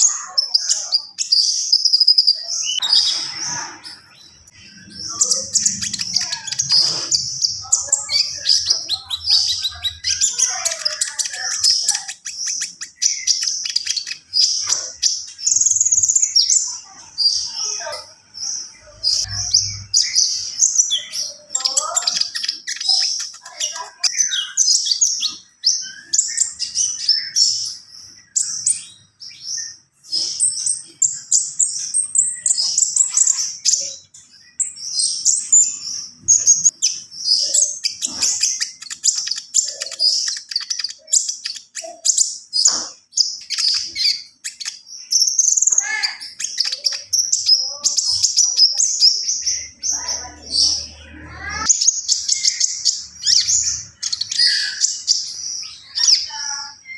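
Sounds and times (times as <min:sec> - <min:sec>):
songbird chirping and trilling: 0:00.0 - 0:56.9.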